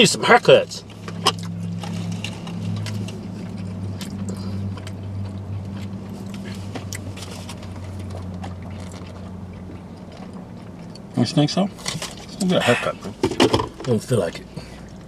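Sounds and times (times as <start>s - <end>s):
car interior hum: 0.0s - 15.0s
eating and food rustling: 0.9s - 15.0s.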